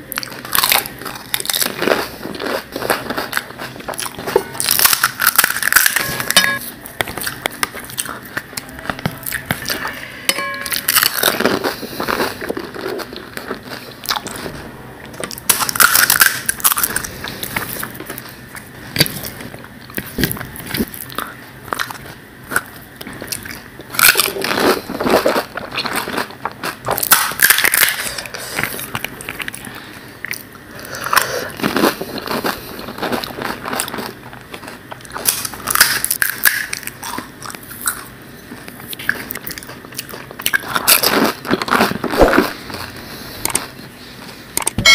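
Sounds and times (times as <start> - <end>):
crisp shells crunched and chewed: 0.0 - 9.9, 10.7 - 43.9.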